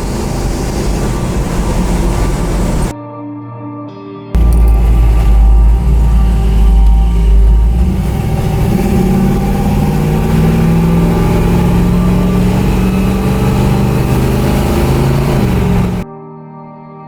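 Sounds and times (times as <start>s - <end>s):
car engine running: 0.0s - 2.9s, 4.4s - 16.0s.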